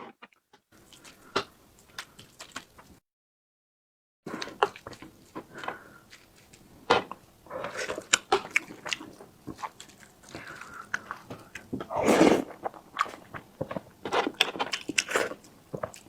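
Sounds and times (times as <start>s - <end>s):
mouth chewing with wet smacks: 0.8s - 3.0s, 4.4s - 11.9s, 12.5s - 16.0s.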